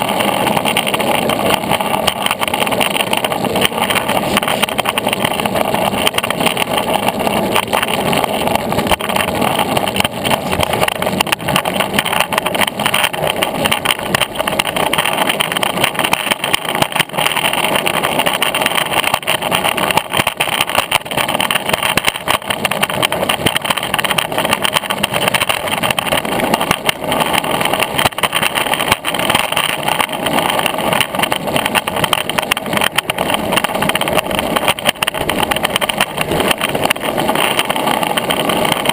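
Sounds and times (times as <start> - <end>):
longboard wheels rolling on rough path: 0.0 - 38.9.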